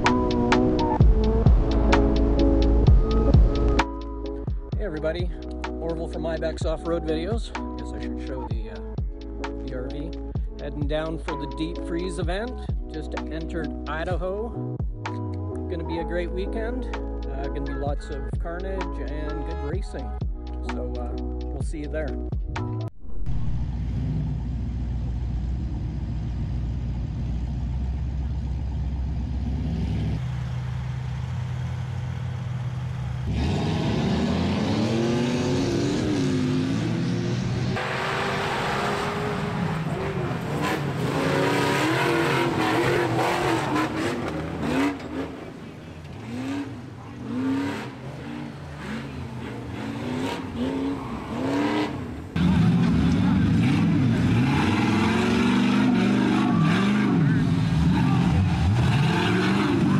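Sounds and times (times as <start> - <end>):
buggy engines idling and revving: 0.0 - 59.9.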